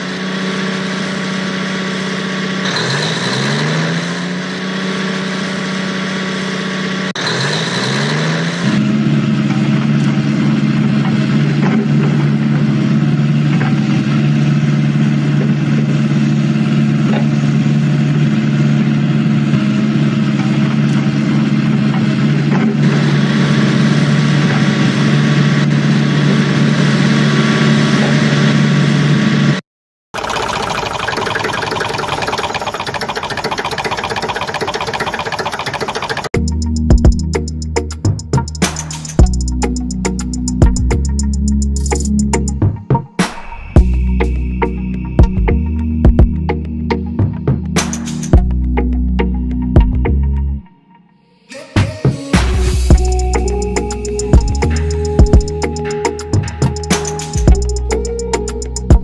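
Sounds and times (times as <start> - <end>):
truck engine revving: 0.0 - 29.6, 30.2 - 50.6, 51.8 - 59.0.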